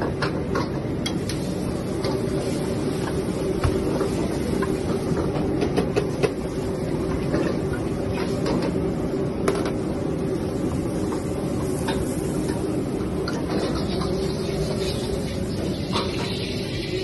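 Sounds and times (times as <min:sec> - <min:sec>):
wok stir-frying rushing noise: 0:00.0 - 0:17.0.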